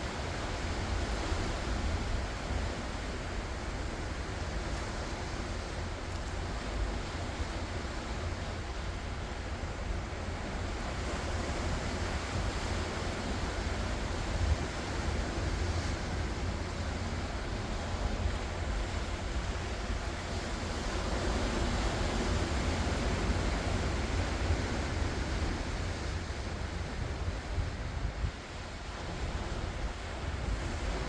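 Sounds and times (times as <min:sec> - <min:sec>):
ocean waves washing onto shore: 0:00.0 - 0:31.0
wind rumble on microphone: 0:00.0 - 0:31.0.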